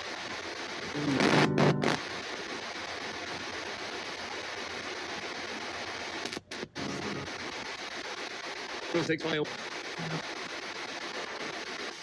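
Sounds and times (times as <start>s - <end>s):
faint radio fragment: 0.0s - 12.0s
radio static hiss: 0.0s - 12.0s.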